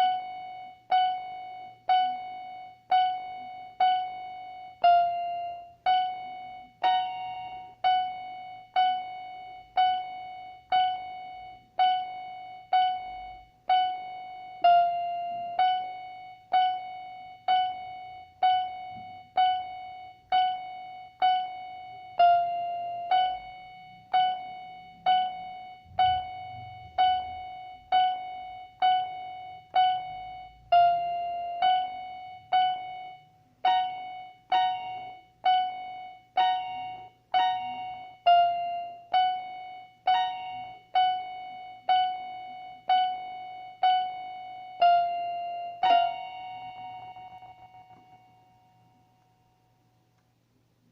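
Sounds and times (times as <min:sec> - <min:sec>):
electronic keyboard single notes: 0:00.0 - 0:50.2.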